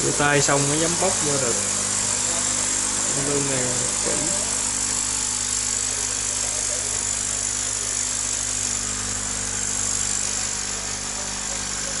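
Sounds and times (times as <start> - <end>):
air pump humming: 0.0 - 12.0.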